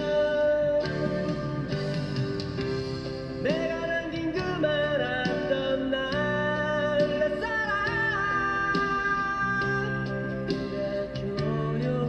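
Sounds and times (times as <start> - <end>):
slow song with guitar: 0.0 - 12.0.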